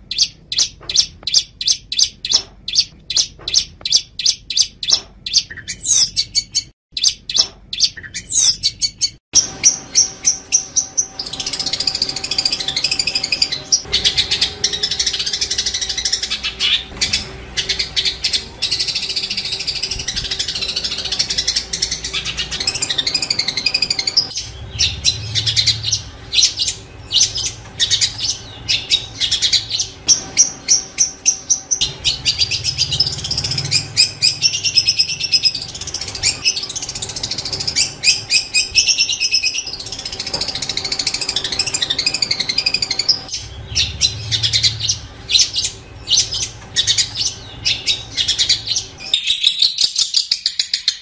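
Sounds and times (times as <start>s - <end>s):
bird warbling song: 0.0s - 51.0s.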